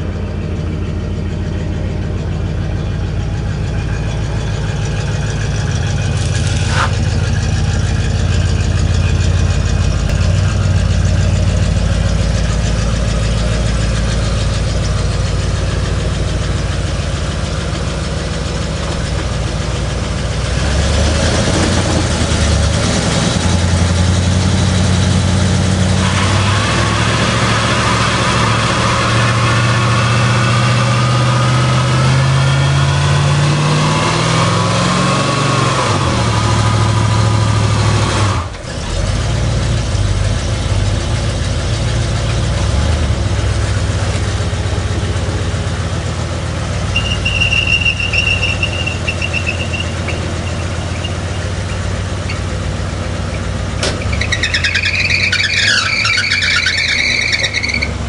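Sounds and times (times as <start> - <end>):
car engine revving: 0.0 - 58.0
tires squealing: 2.3 - 15.8, 16.4 - 39.0, 46.7 - 58.0.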